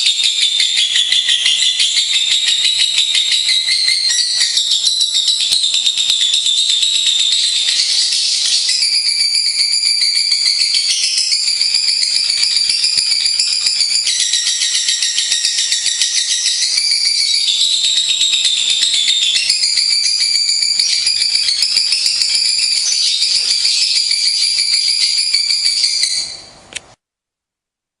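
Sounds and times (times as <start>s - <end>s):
lovebirds chattering: 1.0s - 26.5s.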